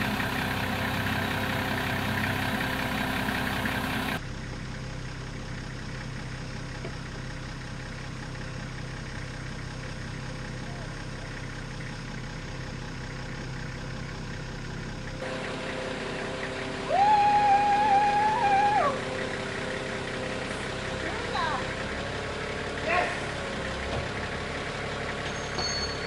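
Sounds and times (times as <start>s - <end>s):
forklift engine idling: 0.0s - 26.0s.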